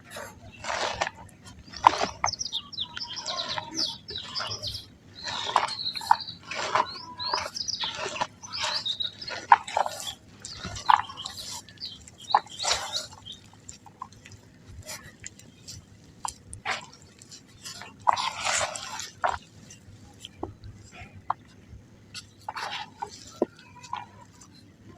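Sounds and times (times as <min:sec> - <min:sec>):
dry mud crumbling: 0:00.0 - 0:24.9.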